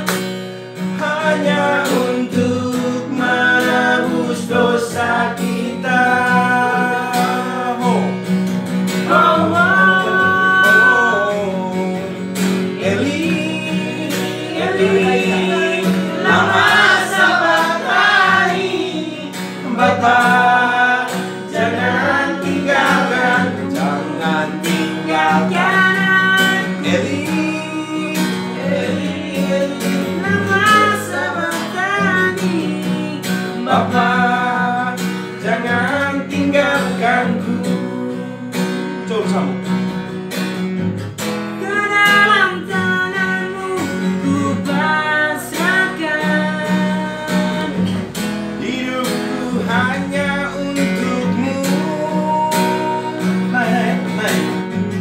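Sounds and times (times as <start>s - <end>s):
strummed acoustic guitar: 0.0s - 55.0s
young men singing gospel: 0.9s - 8.2s, 8.9s - 39.1s, 41.6s - 55.0s.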